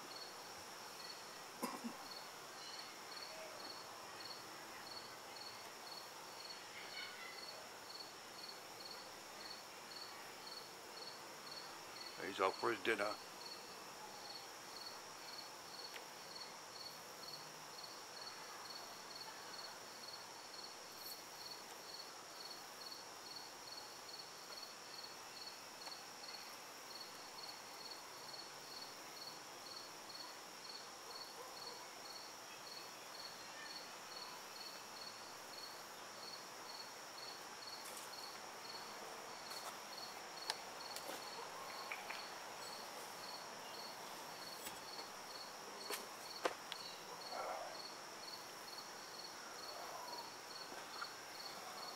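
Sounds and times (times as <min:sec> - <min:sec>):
insects chirping: 0:00.0 - 0:51.9.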